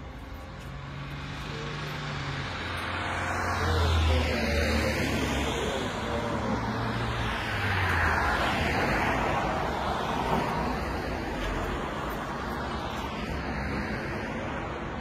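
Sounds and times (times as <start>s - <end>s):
steady traffic noise: 0.0s - 15.0s
car passing: 0.7s - 15.0s.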